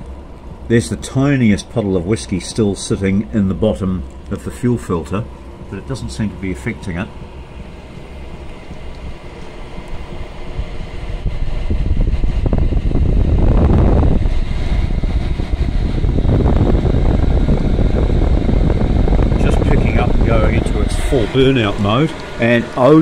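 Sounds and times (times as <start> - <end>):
heater fan and burner rumbling: 0.0 - 23.0.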